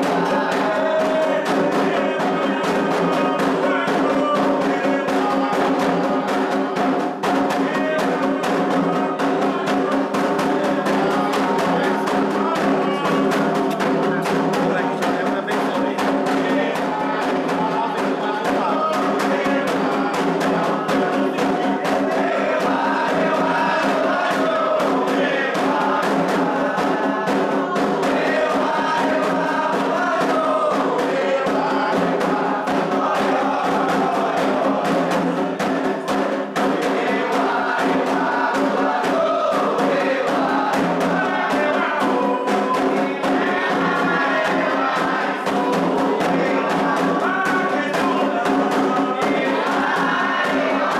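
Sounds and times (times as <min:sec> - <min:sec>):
group of voices chanting: 0:00.0 - 0:50.9
hand drums beating fast rhythm: 0:00.0 - 0:50.9.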